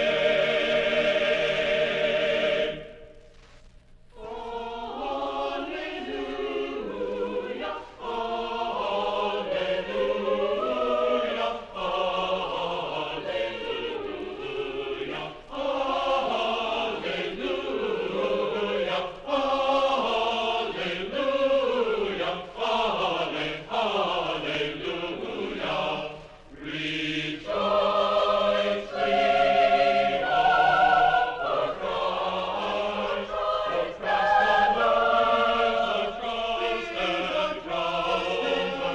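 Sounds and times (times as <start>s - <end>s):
choir singing: 0.0s - 3.1s, 4.2s - 38.9s.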